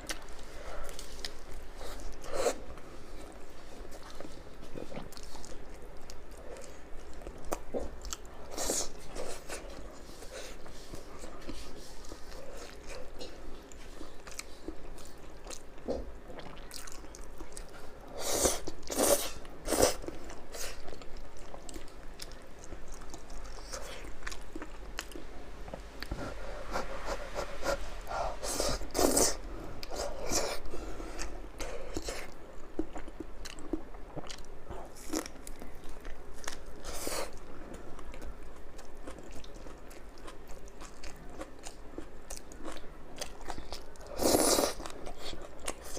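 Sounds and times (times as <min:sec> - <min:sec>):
chewing: 0:00.0 - 0:45.9.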